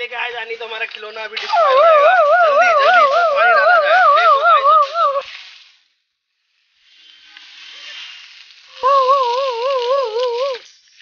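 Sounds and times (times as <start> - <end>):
fire hissing sizzle: 0.8 - 11.0.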